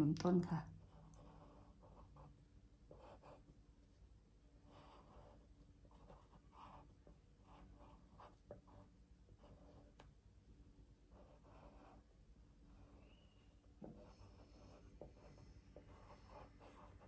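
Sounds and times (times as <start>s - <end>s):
drawing tool scratching paper: 0.8s - 3.5s, 4.7s - 10.0s, 11.1s - 17.0s.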